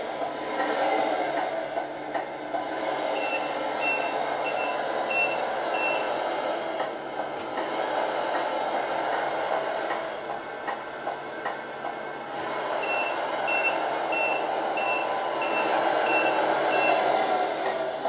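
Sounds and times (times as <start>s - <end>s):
simulated diesel engine from speaker: 0.0s - 18.0s.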